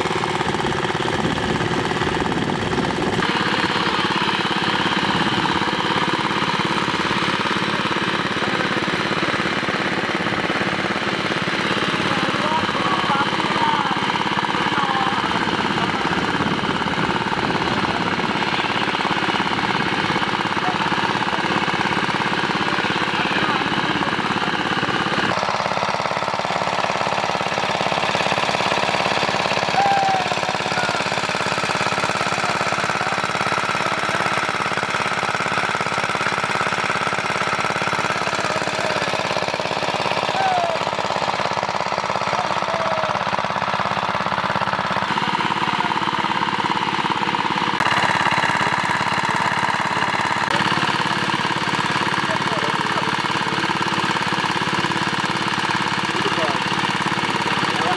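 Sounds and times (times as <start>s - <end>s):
engine running with knocking beat: 0.0s - 57.9s.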